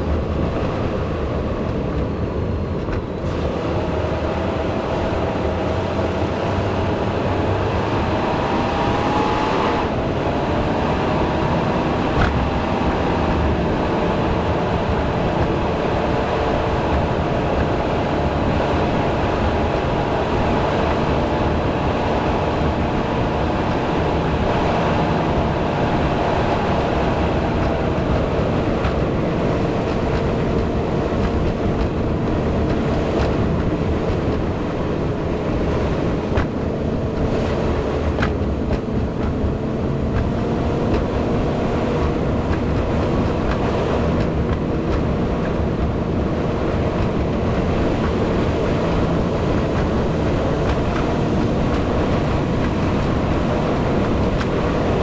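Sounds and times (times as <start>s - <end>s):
car engine drone: 0.0s - 55.0s
tyre and road rumble: 0.0s - 55.0s.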